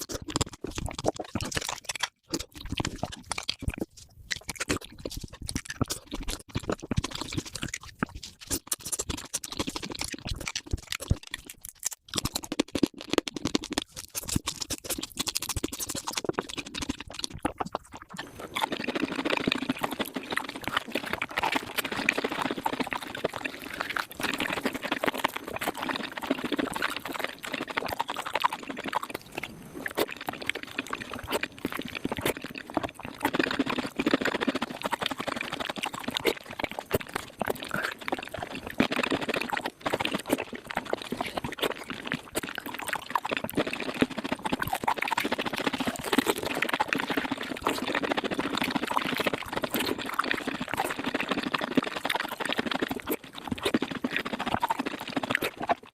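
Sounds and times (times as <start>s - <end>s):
sped-up eating mouth sounds: 0.0s - 55.9s.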